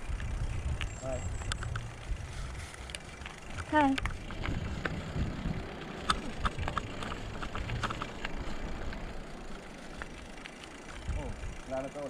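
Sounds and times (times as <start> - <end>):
bicycle tyres rumbling on gravel: 0.0 - 12.0
stones and bike rattling: 0.0 - 12.0.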